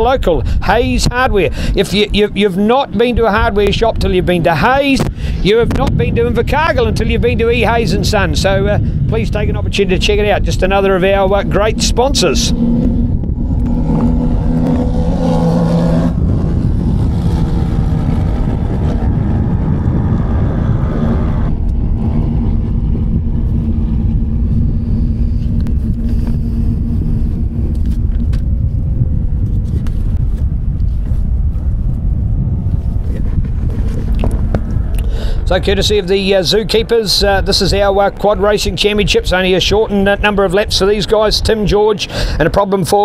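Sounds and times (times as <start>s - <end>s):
racing quad bike engines droning: 2.7s - 30.6s, 31.3s - 42.5s.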